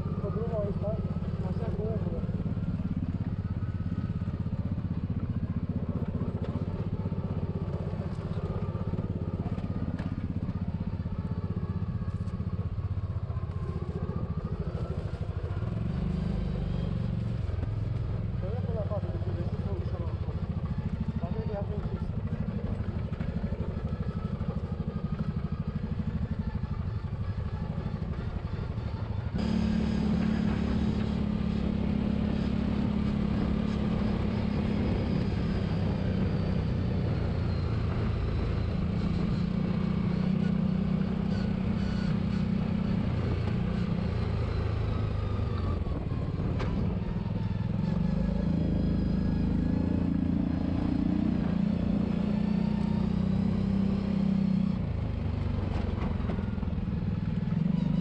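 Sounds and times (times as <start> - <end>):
utv engine droning: 0.0 - 58.0.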